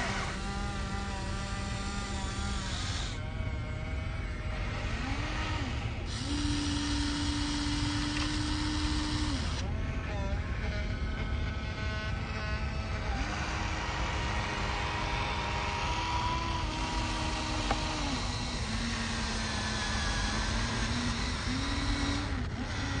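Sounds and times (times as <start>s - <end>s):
small electric motors whining: 0.0s - 23.0s
steady noisy background: 0.0s - 23.0s.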